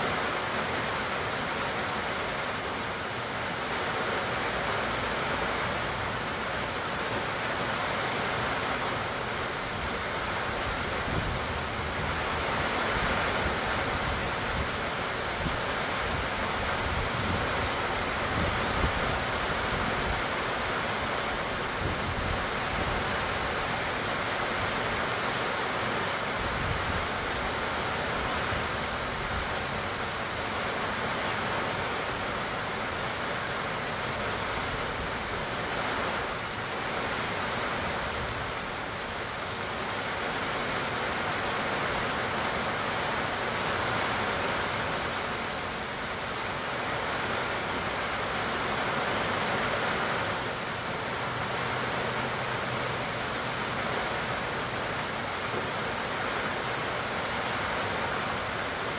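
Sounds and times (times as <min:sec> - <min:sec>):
steady rain on trees and grass: 0:00.0 - 0:58.9.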